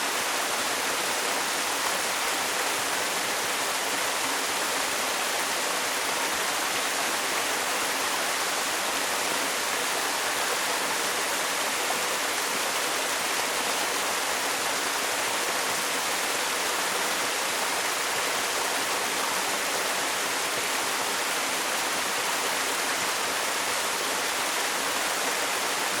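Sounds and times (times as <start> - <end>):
waterfall rushing into pool: 0.0 - 26.0.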